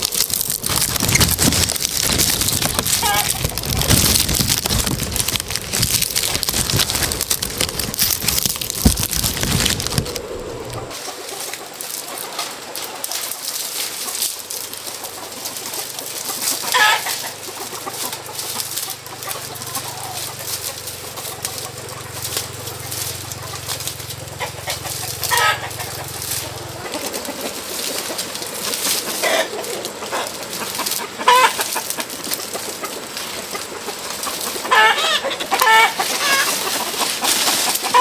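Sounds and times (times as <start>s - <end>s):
chickens clucking: 0.0s - 38.0s
loud rustling: 0.0s - 38.0s.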